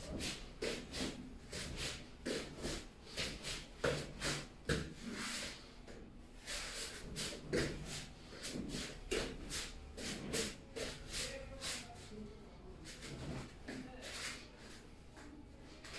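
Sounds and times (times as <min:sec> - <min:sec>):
bare feet on foam mats: 0:00.0 - 0:12.1, 0:12.8 - 0:15.9.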